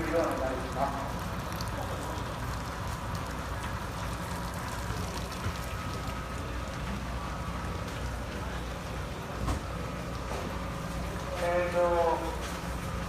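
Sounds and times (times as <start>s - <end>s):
rain falling: 0.0s - 13.0s
raindrops ticking near microphone: 0.0s - 13.0s.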